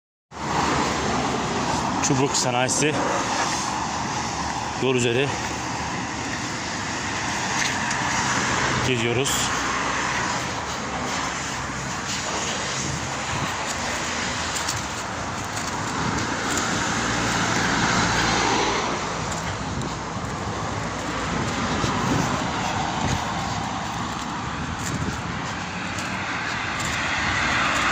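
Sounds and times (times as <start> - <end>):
cars passing: 0.3 - 27.9.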